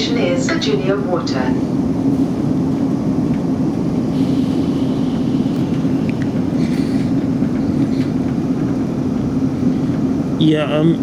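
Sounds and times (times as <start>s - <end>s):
train running noise with low hum: 0.0s - 11.0s.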